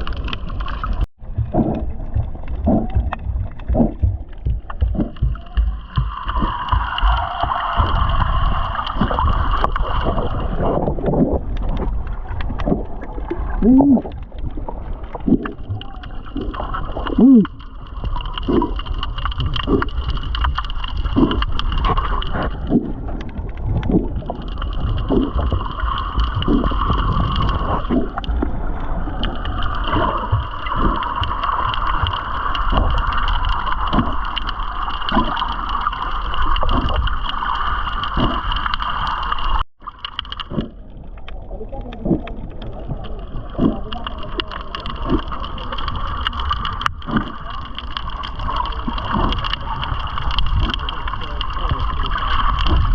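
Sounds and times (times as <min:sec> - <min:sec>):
underwater water rumble: 0:00.0 - 0:52.9.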